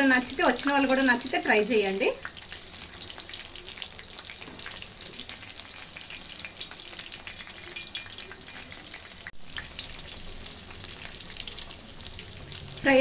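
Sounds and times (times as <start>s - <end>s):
chillies deep-frying in oil: 0.0s - 13.0s.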